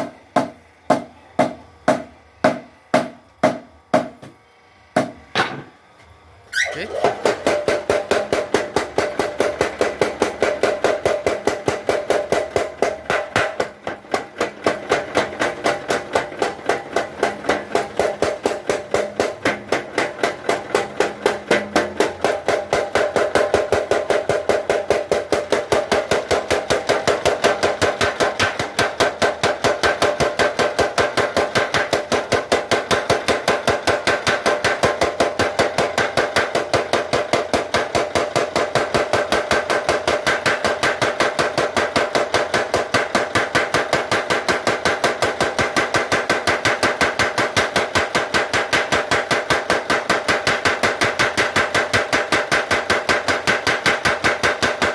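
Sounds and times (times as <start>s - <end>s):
power hammer striking metal: 5.0s - 5.7s, 6.6s - 54.9s.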